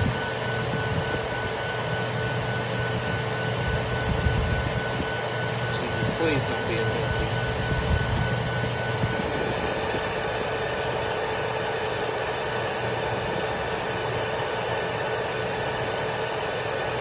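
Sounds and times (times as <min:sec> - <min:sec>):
vacuum cleaner motor running: 0:00.0 - 0:17.0.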